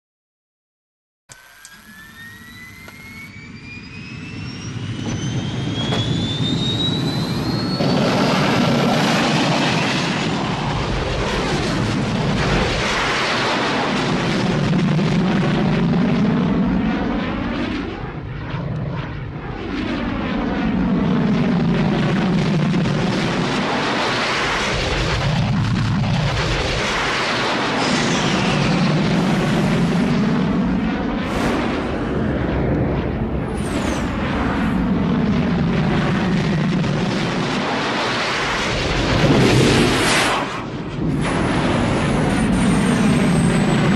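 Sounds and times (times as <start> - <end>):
jet engine whine: 1.3 - 43.9
jet plane passing low: 1.3 - 43.9.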